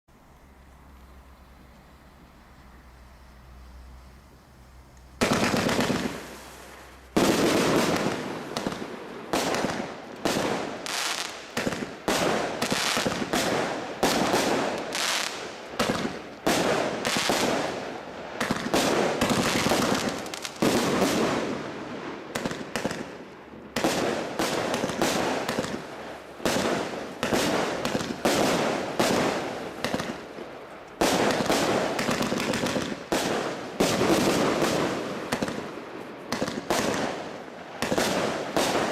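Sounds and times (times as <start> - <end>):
firework aerial bursts: 1.4 - 38.9.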